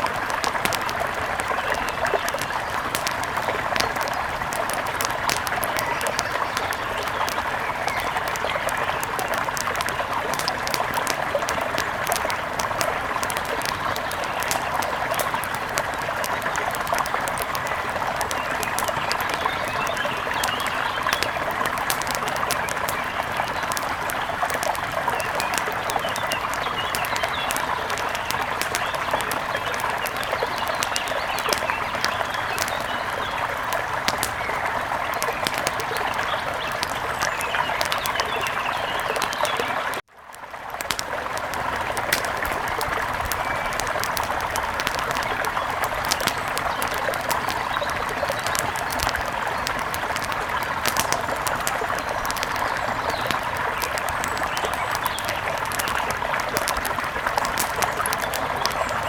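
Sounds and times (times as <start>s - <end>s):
birds chirping: 0.0s - 40.0s, 40.8s - 59.0s.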